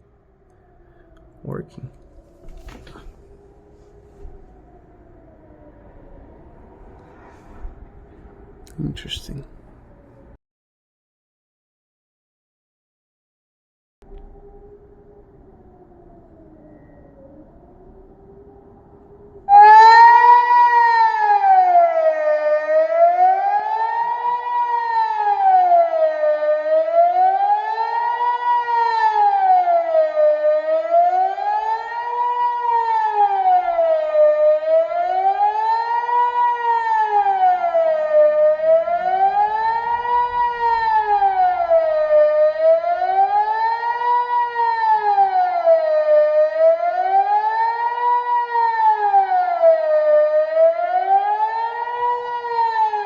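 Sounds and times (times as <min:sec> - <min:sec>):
siren wailing: 0:00.0 - 0:10.4, 0:14.0 - 0:53.0.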